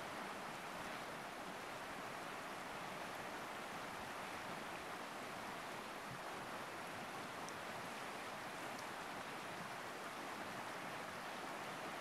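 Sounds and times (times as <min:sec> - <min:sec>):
river rushing over rapids: 0:00.0 - 0:12.0.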